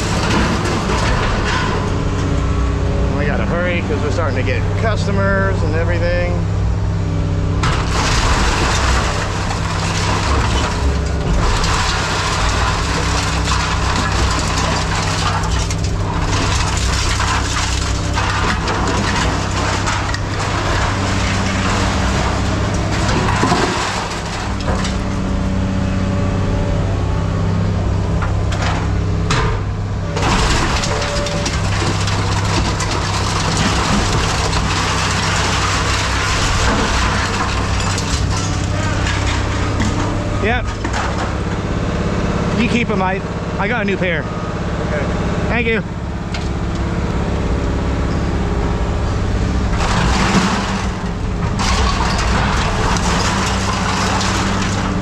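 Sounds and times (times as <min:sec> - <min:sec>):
heavy machine engine running: 0:00.0 - 0:55.0
scrap clattering and crunching: 0:00.0 - 0:55.0.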